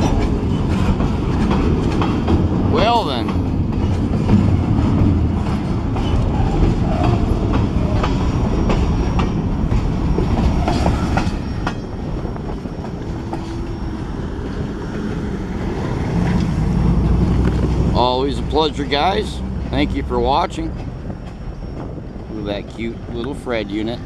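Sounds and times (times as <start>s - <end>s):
freight train rumble: 0.0s - 24.0s
train wheels clicking over rail joints: 0.0s - 24.0s.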